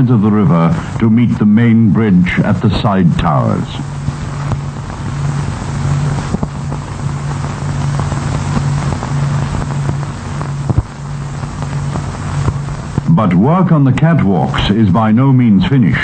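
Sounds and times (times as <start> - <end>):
constant hiss: 0.0 - 16.0
heavy machinery droning: 0.0 - 16.0
pulsing low hum: 0.0 - 16.0.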